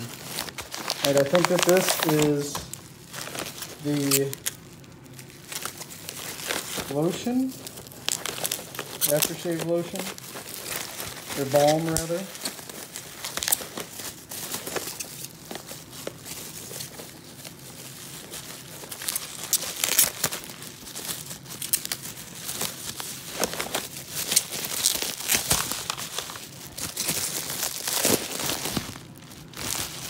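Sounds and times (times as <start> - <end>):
bubble wrap and paper crinkling: 0.0 - 30.0.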